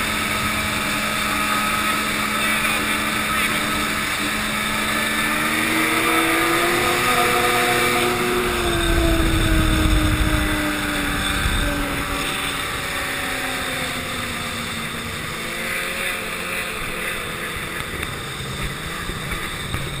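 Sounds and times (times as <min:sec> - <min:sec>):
snowmobile engine running: 0:00.0 - 0:20.0
wind rumbling on microphone: 0:00.0 - 0:20.0.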